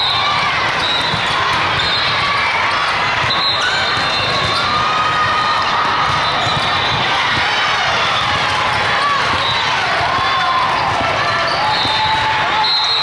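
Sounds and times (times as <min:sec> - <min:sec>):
volleyballs struck and bouncing: 0:00.2 - 0:12.5.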